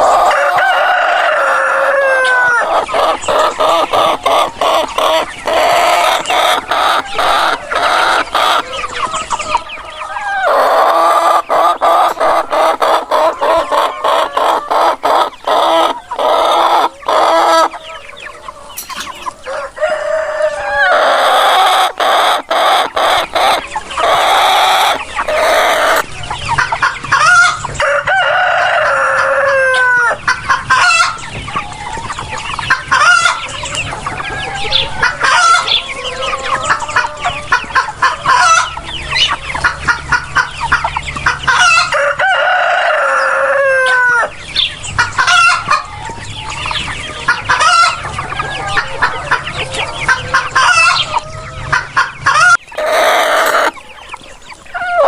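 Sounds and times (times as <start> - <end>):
chickens clucking: 0.0 - 55.0
roosters crowing: 0.0 - 55.0.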